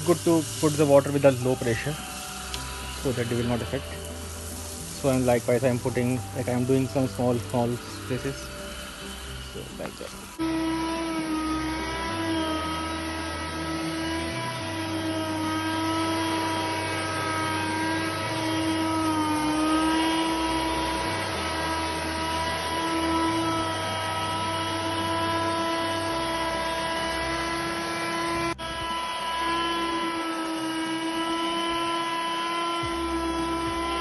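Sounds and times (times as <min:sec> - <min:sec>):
brush rollers scrubbing wet wood: 0:00.0 - 0:34.0
patio cleaner motor whine: 0:00.0 - 0:34.0.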